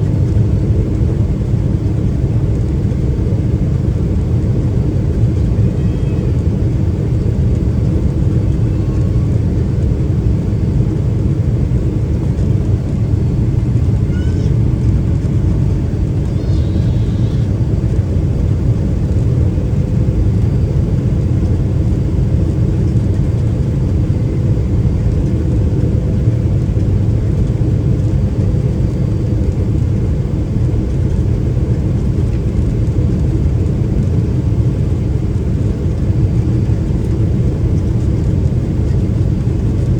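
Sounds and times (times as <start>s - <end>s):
airflow noise over fuselage: 0.0s - 39.9s
faint steady hum: 0.0s - 39.9s
jet engines droning: 0.0s - 39.9s.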